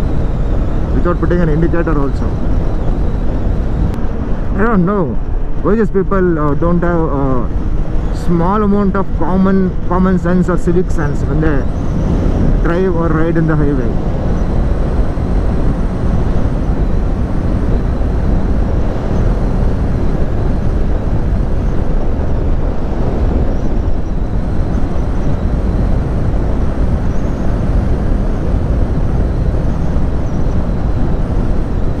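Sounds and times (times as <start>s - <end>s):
motorcycle engine running: 0.0s - 32.0s
wind rush over microphone: 0.0s - 32.0s.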